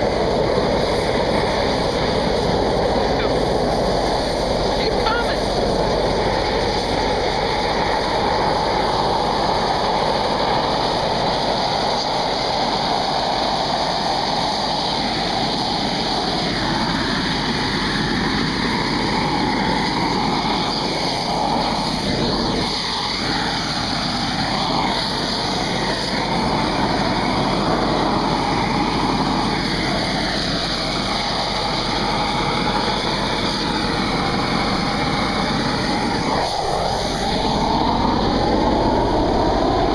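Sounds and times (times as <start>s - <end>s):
hot air lance blowing: 0.0s - 39.9s
machine engines running: 0.0s - 39.9s.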